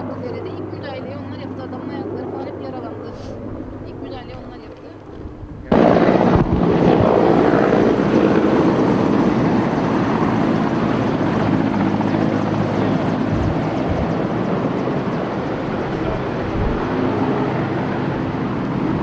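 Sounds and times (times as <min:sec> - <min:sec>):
helicopter rotor and engine: 0:00.0 - 0:19.0.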